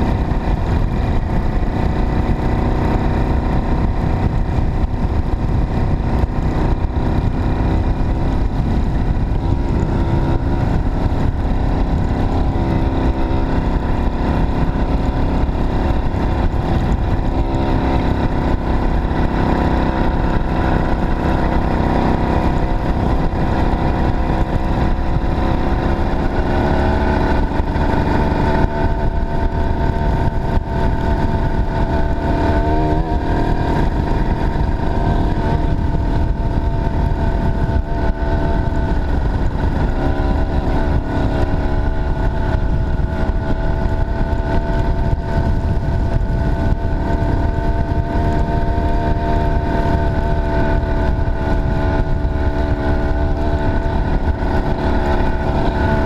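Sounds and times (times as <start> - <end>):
two-stroke bicycle engine revving: 0.0 - 56.0
wind rumble on microphone: 0.0 - 56.0.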